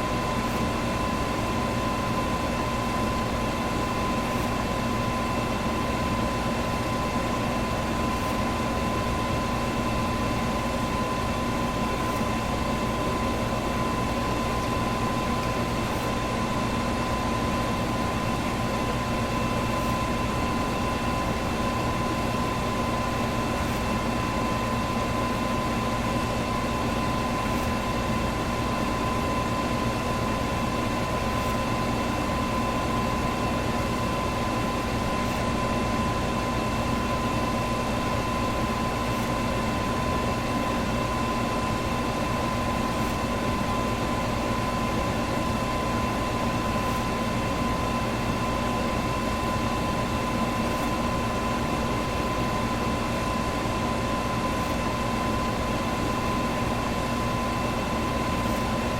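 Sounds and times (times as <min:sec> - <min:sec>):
electric fan running: 0:00.0 - 0:58.9.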